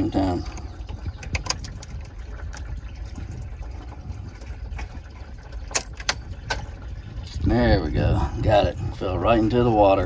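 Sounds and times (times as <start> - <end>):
coolant trickling: 0.0 - 10.0.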